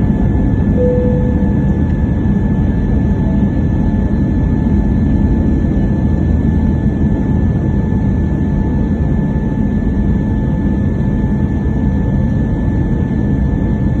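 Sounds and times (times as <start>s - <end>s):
jet engine high whine: 0.0s - 14.0s.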